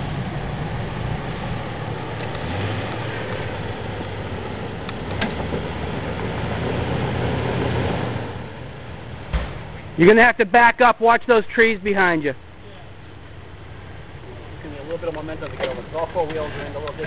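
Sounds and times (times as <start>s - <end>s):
engine running under load: 0.0s - 17.0s.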